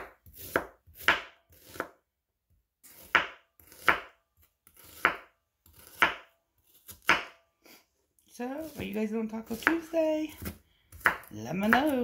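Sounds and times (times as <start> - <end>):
knife chopping onion on board: 0.0 - 2.0, 2.9 - 7.4, 8.6 - 12.0.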